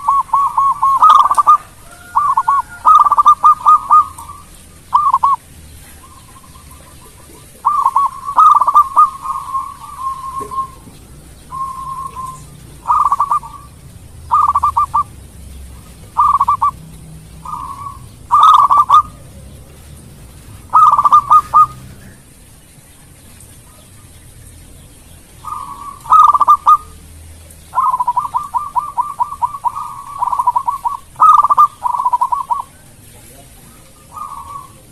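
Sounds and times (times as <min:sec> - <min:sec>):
dove cooing: 0:00.0 - 0:22.3, 0:25.4 - 0:27.0, 0:27.7 - 0:34.9.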